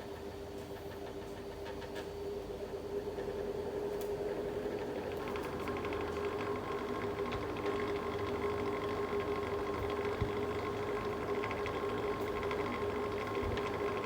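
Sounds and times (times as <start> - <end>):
fan motor hum: 0.0 - 14.0.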